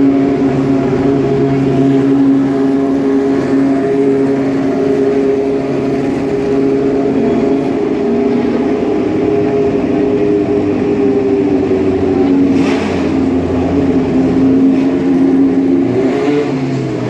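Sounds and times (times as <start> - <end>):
racing car engine at low revs: 0.0 - 17.0.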